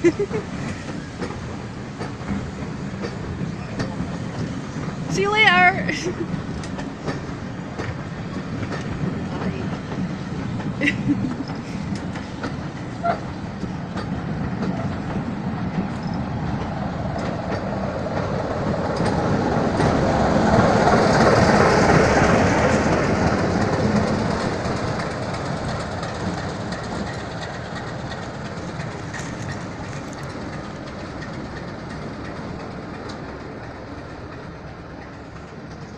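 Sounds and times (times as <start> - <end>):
diesel locomotive passing: 0.0 - 35.9
train wheels clicking over rail joints: 0.0 - 35.9.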